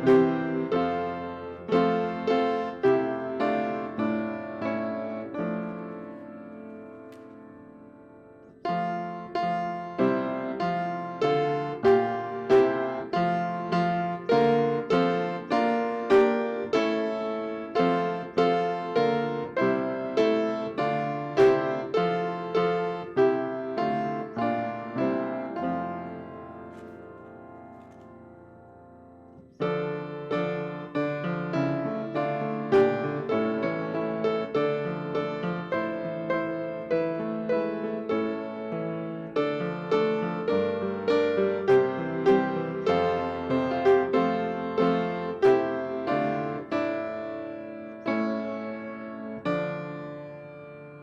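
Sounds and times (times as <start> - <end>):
piano playing slow chords: 0.0 - 51.0.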